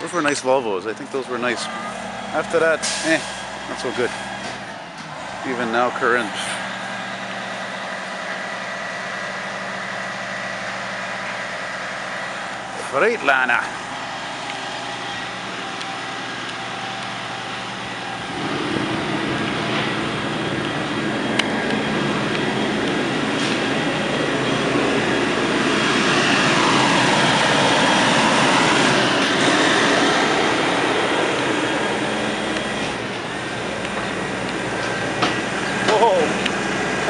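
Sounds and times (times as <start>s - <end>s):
garbage truck engine running: 0.0s - 37.0s.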